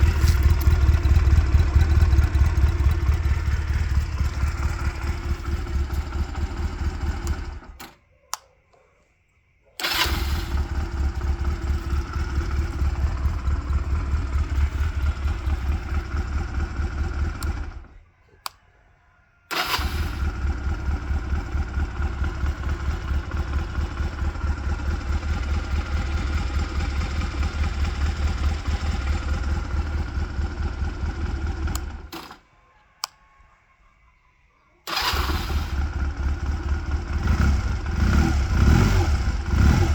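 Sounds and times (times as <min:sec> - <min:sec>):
motorcycle engine idling: 0:00.0 - 0:07.9, 0:09.8 - 0:18.6, 0:19.5 - 0:32.2, 0:34.9 - 0:39.9.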